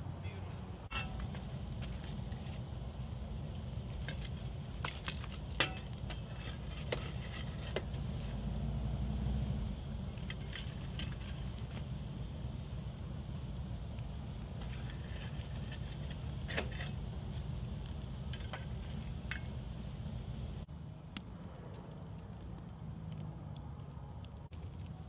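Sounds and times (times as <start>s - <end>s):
campfire crackling: 0.0s - 25.0s
burning wood popping: 0.8s - 25.0s.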